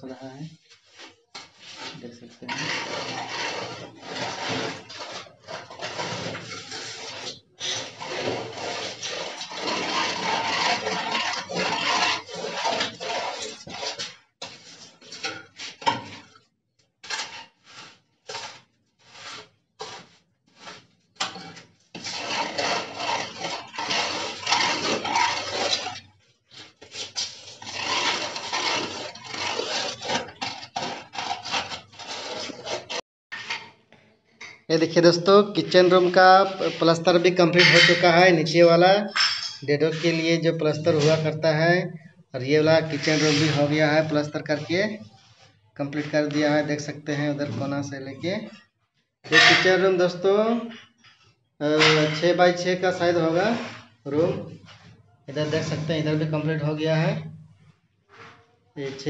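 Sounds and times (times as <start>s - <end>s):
hand float scraping plaster: 0.7s - 33.8s, 34.8s - 39.0s, 39.7s - 48.7s, 49.3s - 59.0s.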